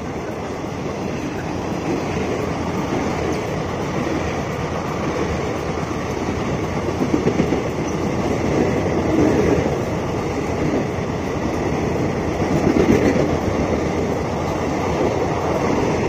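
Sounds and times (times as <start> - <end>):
steel wheels rushing on rails: 0.0 - 16.0
train wheel beats: 0.0 - 16.0.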